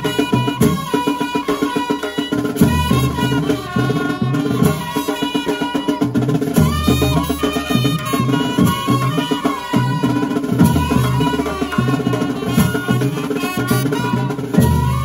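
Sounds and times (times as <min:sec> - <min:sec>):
drums and percussion rhythm: 0:00.0 - 0:15.0
pitched melody line: 0:00.0 - 0:15.0.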